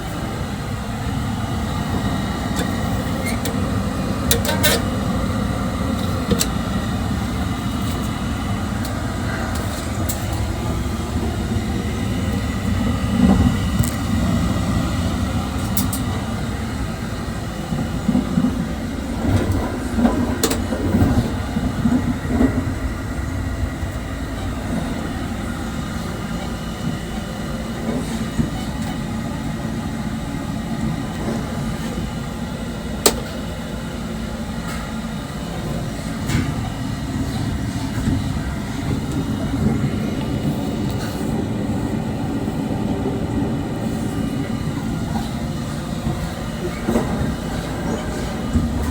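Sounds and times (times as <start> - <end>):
electric train low rumble: 0.0 - 48.9.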